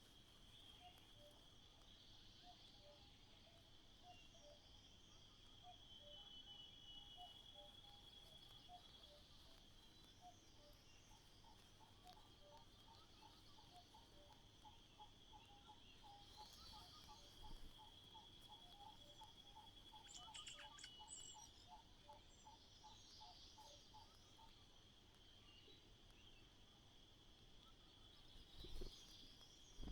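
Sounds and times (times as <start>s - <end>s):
insects trilling: 0.2s - 29.9s.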